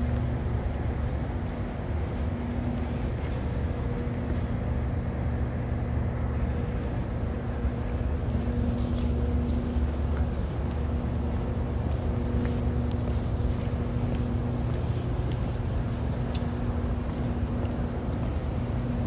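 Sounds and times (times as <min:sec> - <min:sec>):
metro station rumble and hum: 0:00.0 - 0:19.0.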